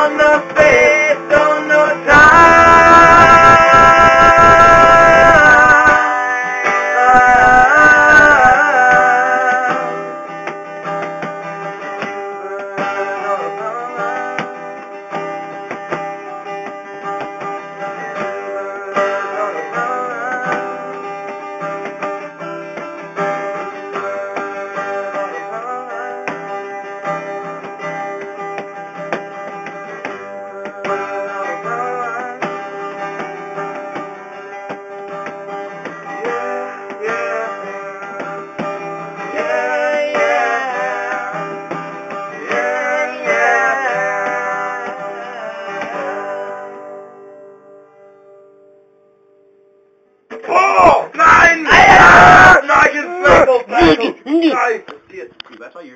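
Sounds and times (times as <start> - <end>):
acoustic guitar strumming: 0.0 - 55.9.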